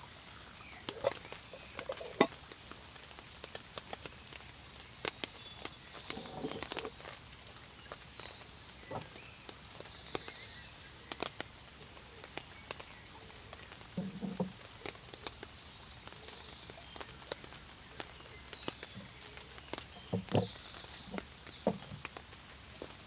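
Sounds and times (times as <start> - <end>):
light rain hiss: 0.0 - 23.0
raindrops tapping: 0.0 - 23.0.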